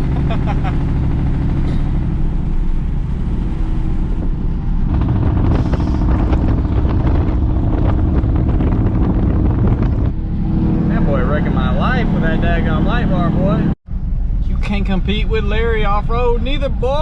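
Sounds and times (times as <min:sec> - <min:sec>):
pickup truck exhaust accelerating: 0:00.0 - 0:17.0.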